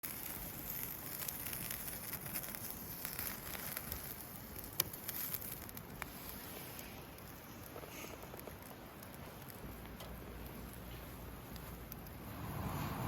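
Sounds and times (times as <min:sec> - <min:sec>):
campfire crackling: 0:00.0 - 0:13.0
fire popping: 0:00.0 - 0:13.0.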